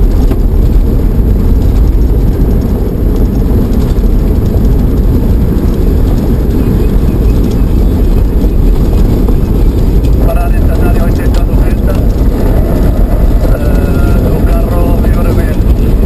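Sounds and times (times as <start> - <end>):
vehicle driving on gravel: 0.0 - 16.0.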